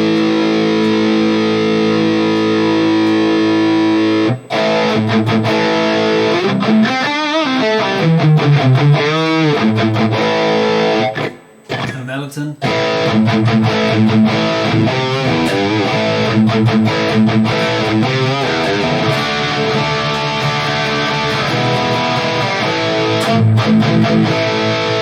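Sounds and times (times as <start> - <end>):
distorted electric guitar: 0.0 - 25.0.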